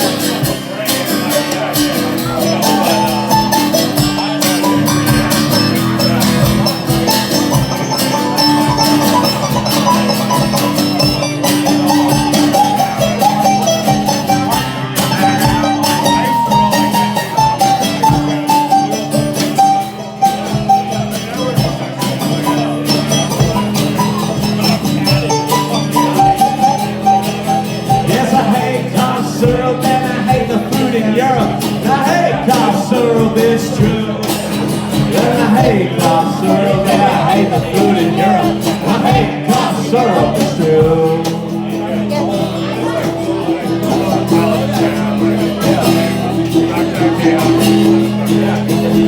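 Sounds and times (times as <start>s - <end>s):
guitar melody: 0.0s - 49.0s
rock band playing instrumental: 0.0s - 49.0s.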